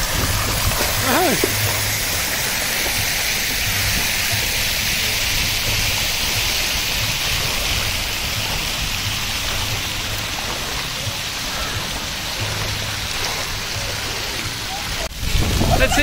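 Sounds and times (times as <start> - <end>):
child splashing through water: 0.0 - 15.1
running water hiss: 0.0 - 16.0.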